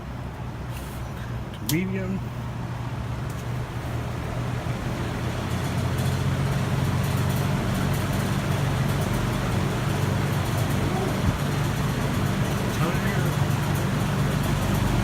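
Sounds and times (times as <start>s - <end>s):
box fan air rushing: 0.0s - 1.5s, 2.3s - 15.0s
low motor hum: 0.0s - 15.0s.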